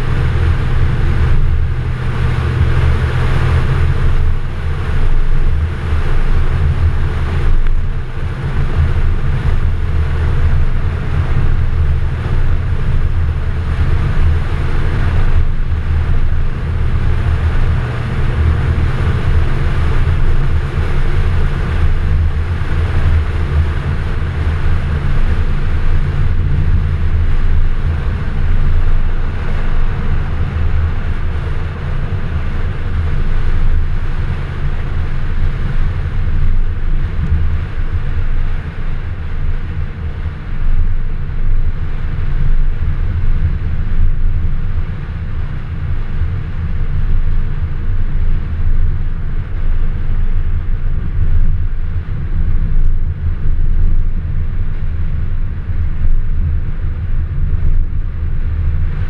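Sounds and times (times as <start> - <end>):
car engine running: 0.0 - 59.0
road noise: 0.0 - 59.0
wind buffeting microphone: 0.0 - 59.0.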